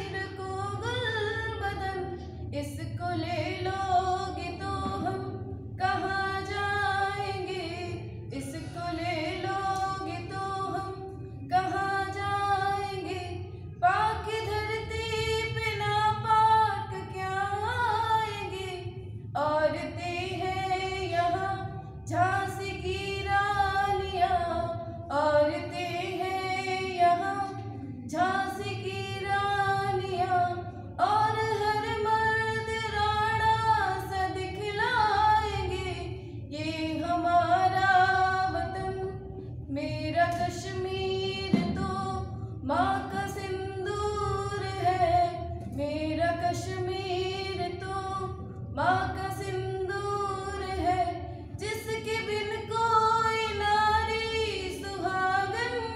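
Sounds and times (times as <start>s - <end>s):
woman singing unaccompanied: 0.0s - 55.9s.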